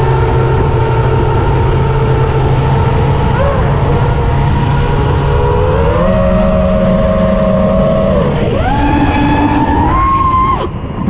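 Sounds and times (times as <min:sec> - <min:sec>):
drone motors whining: 0:00.0 - 0:11.0
wind noise: 0:00.0 - 0:11.0.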